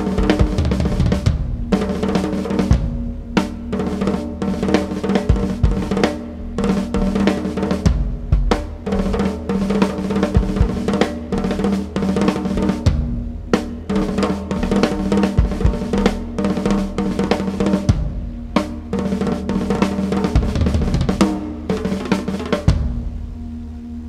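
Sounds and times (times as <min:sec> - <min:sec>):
drum solo with sticks: 0:00.0 - 0:24.0
steady pitched drone: 0:00.0 - 0:24.0.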